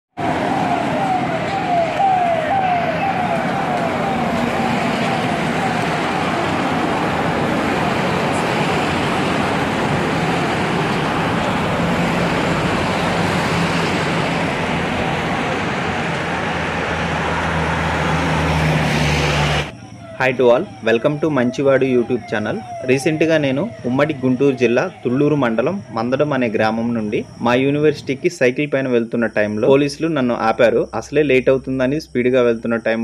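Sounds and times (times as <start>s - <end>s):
siren cycling quickly: 0.2s - 33.0s
vehicles driving past: 0.2s - 33.0s.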